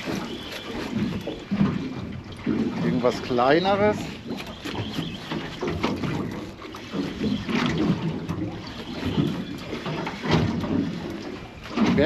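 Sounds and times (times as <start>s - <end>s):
water against boat hull: 0.0s - 12.0s.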